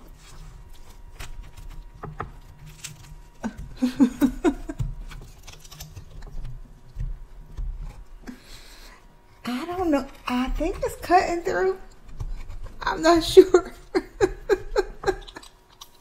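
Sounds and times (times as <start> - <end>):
pizza cutter crunching through crust: 0.0 - 9.0, 9.6 - 16.0.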